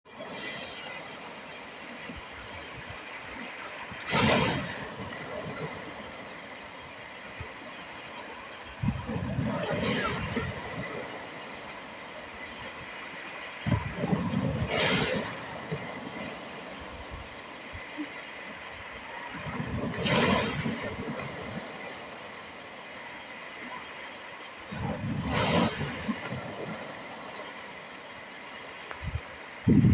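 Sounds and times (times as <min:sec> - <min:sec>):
sea waves breaking on shore: 0:00.1 - 0:29.9
steady surf: 0:00.1 - 0:29.9.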